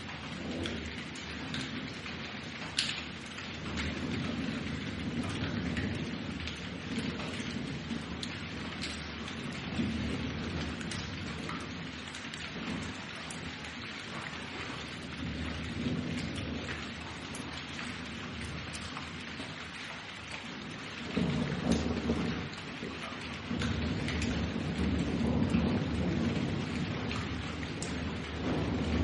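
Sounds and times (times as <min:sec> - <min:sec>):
steady rain falling: 0:00.0 - 0:29.0
thunder rumbling: 0:00.0 - 0:29.0.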